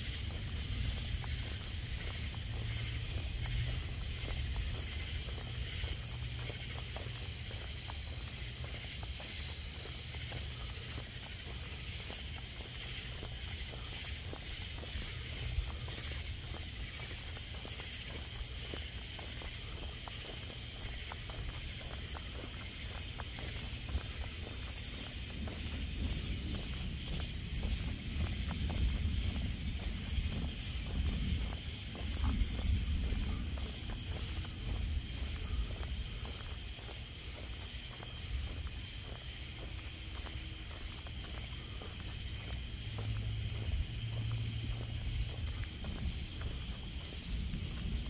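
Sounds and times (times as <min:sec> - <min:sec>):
crickets and insects trilling: 0:00.0 - 0:48.0.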